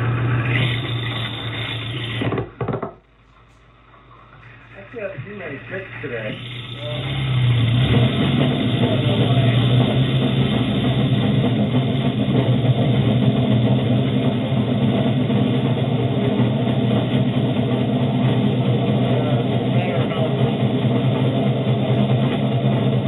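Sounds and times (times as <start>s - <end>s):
engine running steadily: 0.0s - 2.4s, 3.4s - 23.0s.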